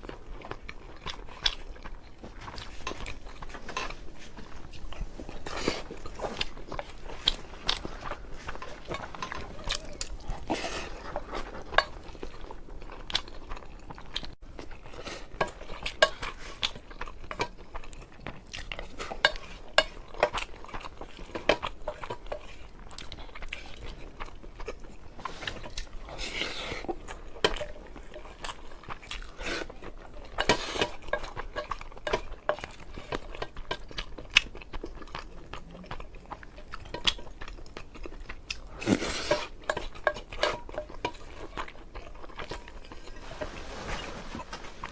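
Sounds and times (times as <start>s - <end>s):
chewing: 0.0s - 44.9s.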